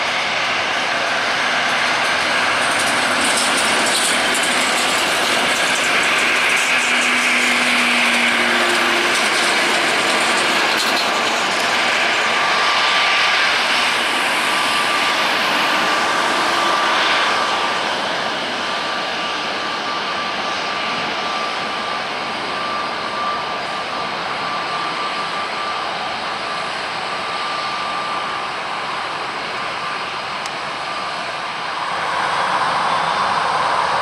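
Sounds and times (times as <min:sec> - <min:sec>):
jet engine rush: 0:00.0 - 0:34.0
jet engine whine: 0:00.0 - 0:34.0.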